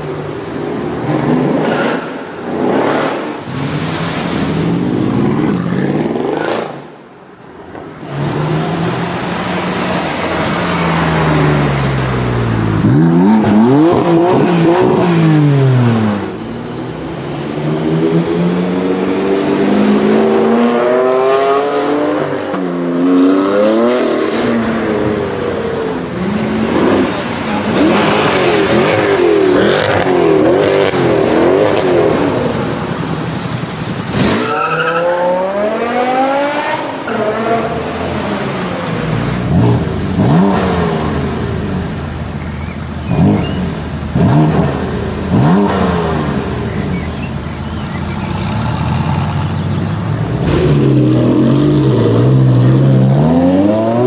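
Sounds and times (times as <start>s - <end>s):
car engines revving hard: 0.0s - 54.0s.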